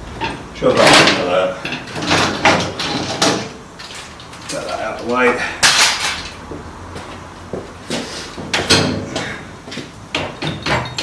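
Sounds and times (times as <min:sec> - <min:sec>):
metal tools clunking: 0:00.1 - 0:06.4, 0:08.3 - 0:11.0.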